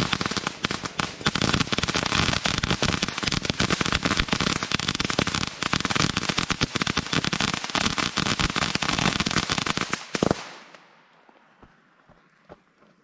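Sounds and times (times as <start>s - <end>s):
firework crackling: 0.0s - 10.8s.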